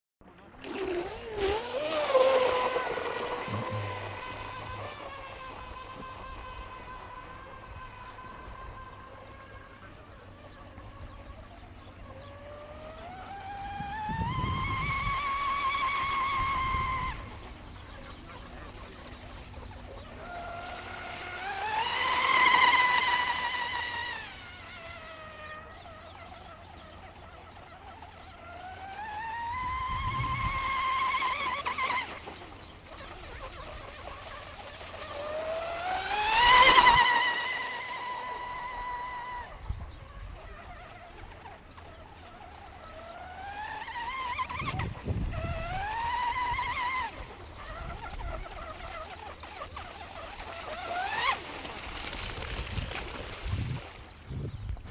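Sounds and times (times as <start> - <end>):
motor high whine: 0.2 - 54.9.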